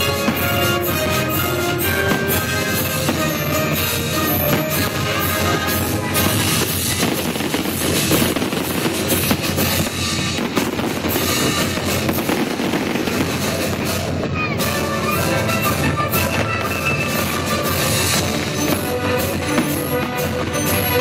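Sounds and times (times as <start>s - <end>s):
fireworks bangs and pops: 0.0s - 21.0s
loud music: 0.0s - 21.0s.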